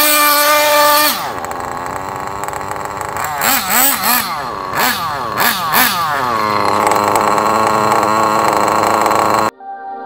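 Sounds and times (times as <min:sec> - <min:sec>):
small engine revving and idling: 0:00.0 - 0:09.5.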